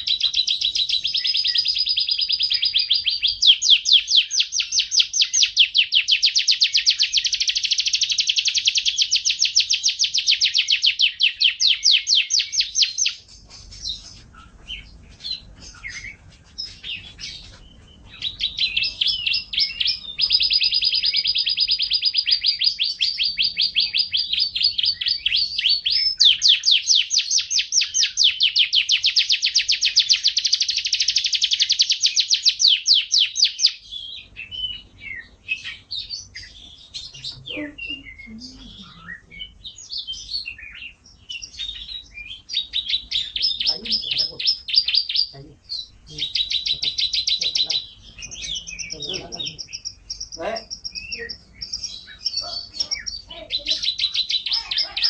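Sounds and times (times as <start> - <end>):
canary chirps: 0.0 - 55.0
canary trilling song: 0.0 - 55.0.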